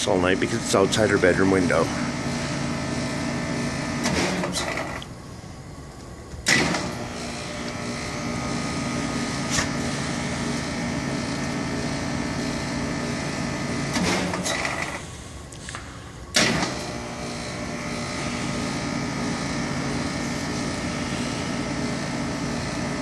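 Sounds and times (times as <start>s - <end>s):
heat pump humming: 0.0s - 23.0s.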